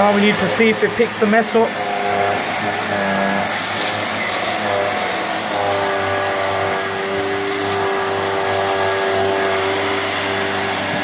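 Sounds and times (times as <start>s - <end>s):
vacuum cleaner running on carpet: 0.0s - 11.0s.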